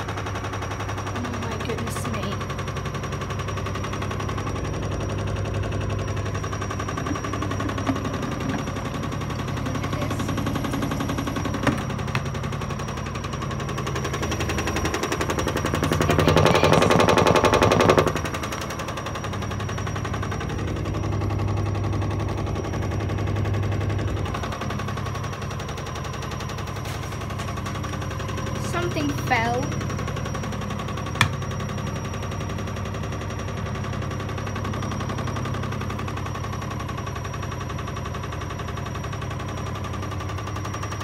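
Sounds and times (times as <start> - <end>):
washing machine spinning: 0.0 - 41.0.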